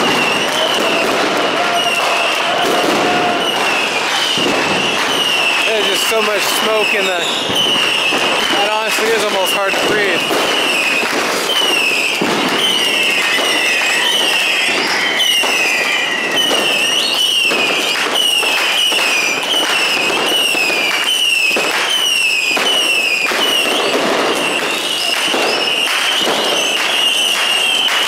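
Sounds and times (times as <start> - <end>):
fireworks cracking and banging: 0.0 - 28.0.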